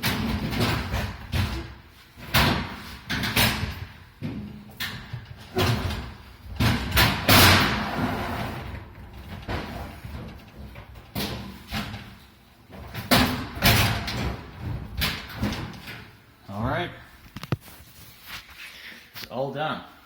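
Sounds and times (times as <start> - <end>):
sheet-metal covers clunking: 0.0 - 16.2.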